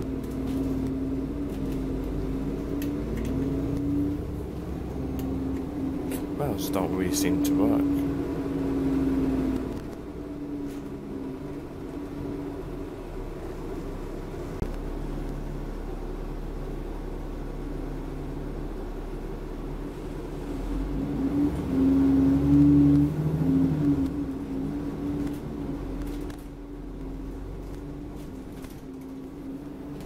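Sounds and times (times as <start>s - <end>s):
bus engine hum: 0.0s - 30.0s.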